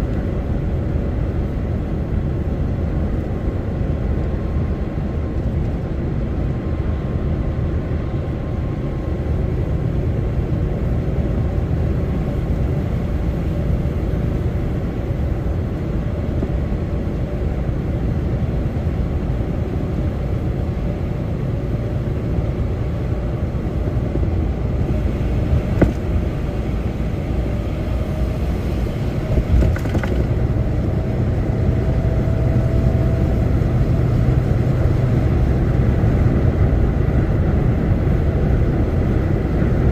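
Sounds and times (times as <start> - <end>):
lorry engine rumble: 0.0 - 39.9
road noise inside cab: 0.0 - 39.9.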